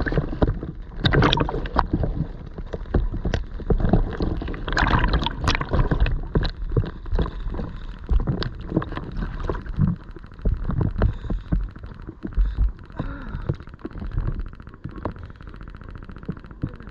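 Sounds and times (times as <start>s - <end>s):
low rumble: 0.0s - 16.9s
water splashing and gurgling: 0.0s - 16.9s.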